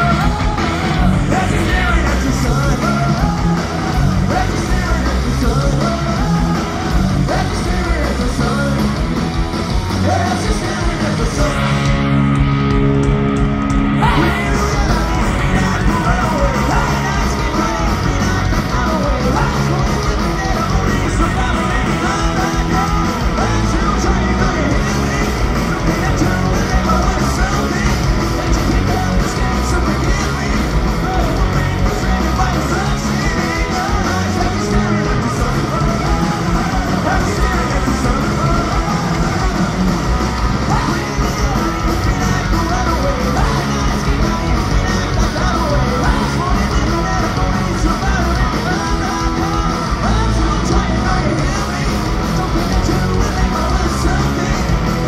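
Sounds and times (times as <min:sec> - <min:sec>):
person singing and shouting: 0:00.0 - 0:09.0, 0:14.0 - 0:55.0
punk rock band playing live: 0:00.0 - 0:55.0.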